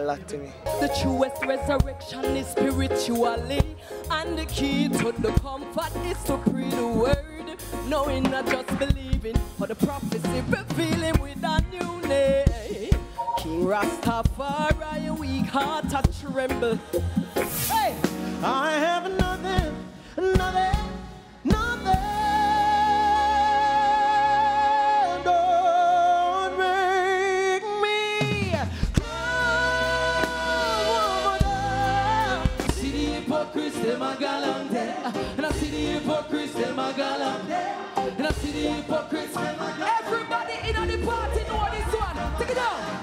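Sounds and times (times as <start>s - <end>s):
live band playing: 0.6s - 34.2s, 37.8s - 43.0s
man singing with vibrato: 0.7s - 37.5s.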